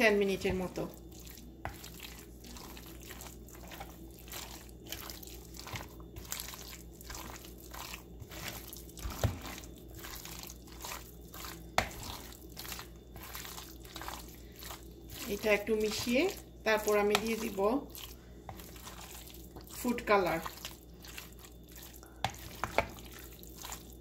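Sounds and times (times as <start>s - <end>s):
hand squelching in wet batter: 0.8s - 24.0s.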